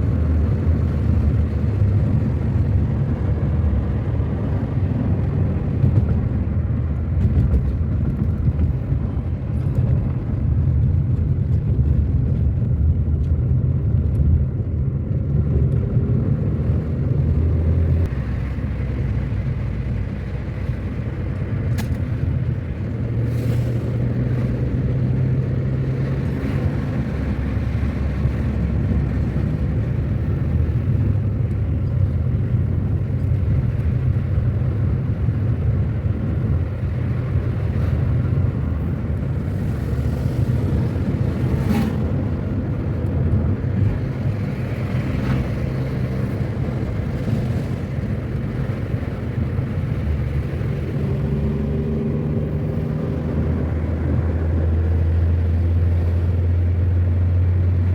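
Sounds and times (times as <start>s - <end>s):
car engine and tyre rumble: 0.0s - 57.9s.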